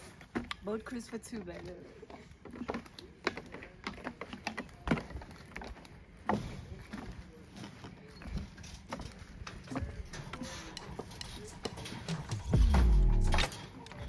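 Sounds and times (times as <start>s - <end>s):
footsteps on wooden boardwalk: 0.0s - 13.2s
footsteps on metal mesh: 0.0s - 14.0s.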